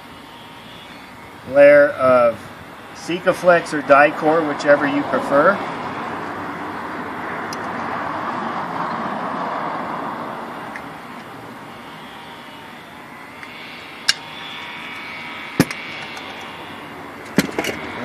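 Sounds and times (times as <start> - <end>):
outdoor traffic rumble: 0.0 - 18.0.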